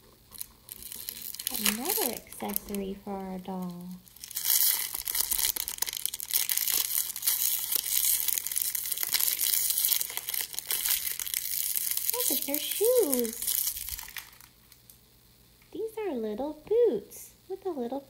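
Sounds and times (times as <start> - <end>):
wrapper rustling and crackling: 0.0 - 14.9.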